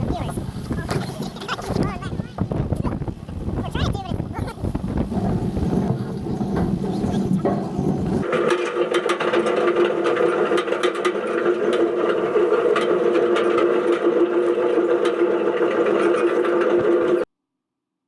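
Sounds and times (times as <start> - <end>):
machinery hum: 0.0 - 17.2
clattering clicks and rattles: 0.1 - 17.3.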